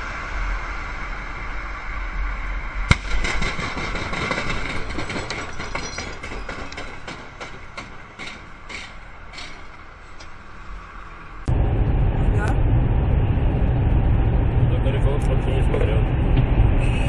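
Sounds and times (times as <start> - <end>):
vehicle road noise: 0.0 - 17.0
torn tyre flapping: 1.3 - 17.0.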